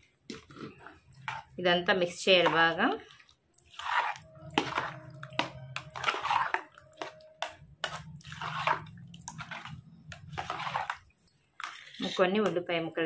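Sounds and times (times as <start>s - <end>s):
yogurt squelching as stirred: 0.0s - 13.0s.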